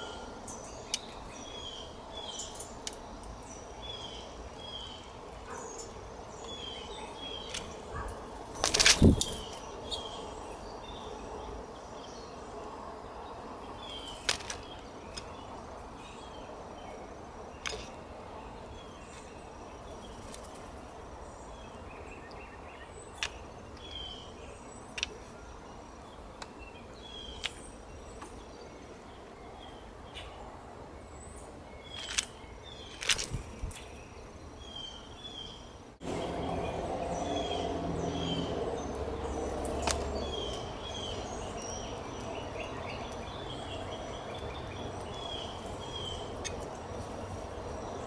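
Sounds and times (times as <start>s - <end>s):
bird chirps: 0.0s - 12.5s, 13.2s - 46.9s.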